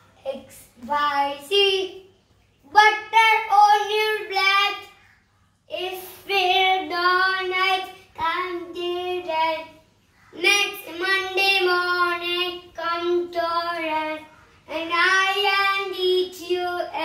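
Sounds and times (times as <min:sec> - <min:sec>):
child singing: 0:00.2 - 0:02.0, 0:02.6 - 0:05.0, 0:05.7 - 0:17.0.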